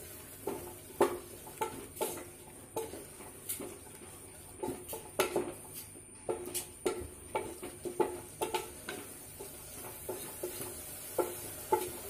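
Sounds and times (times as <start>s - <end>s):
wooden spatula scraping a metal pot: 0.4s - 12.0s.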